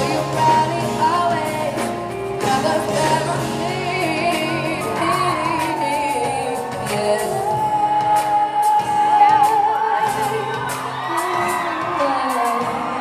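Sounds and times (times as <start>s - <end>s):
acoustic guitar: 0.0s - 11.8s
woman singing: 0.0s - 13.0s.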